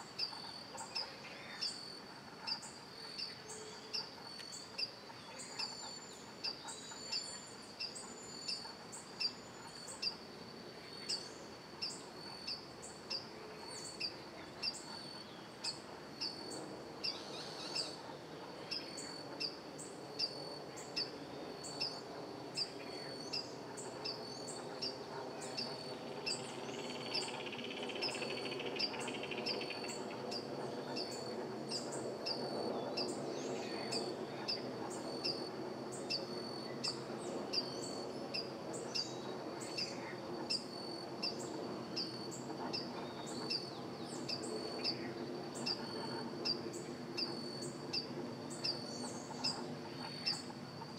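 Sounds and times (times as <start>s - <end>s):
high-pitched insect drone: 0.0s - 50.9s.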